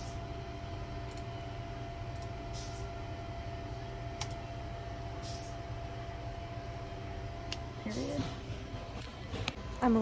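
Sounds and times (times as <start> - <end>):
low machinery hum: 0.0 - 10.0
thin steady whine: 0.0 - 10.0.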